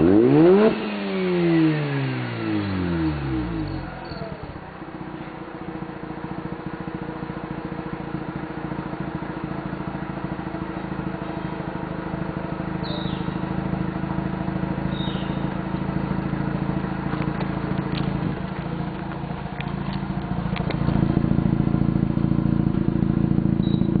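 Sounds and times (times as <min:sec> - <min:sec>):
rotary engine idling: 0:03.1 - 0:24.0.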